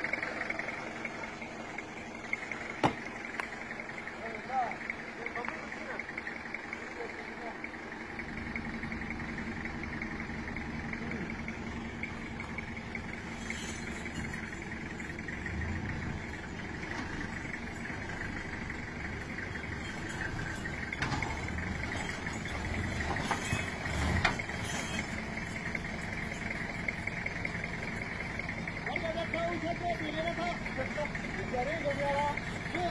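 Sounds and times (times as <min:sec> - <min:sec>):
vehicle engine running: 0:00.0 - 0:32.9.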